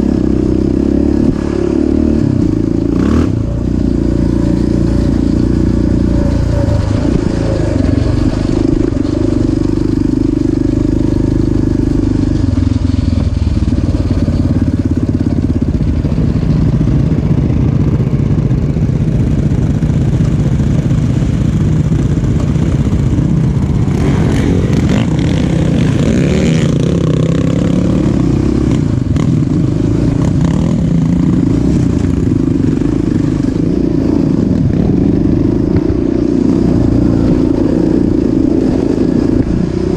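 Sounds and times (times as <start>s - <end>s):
motocross engine revving: 0.0s - 17.4s, 21.2s - 39.9s.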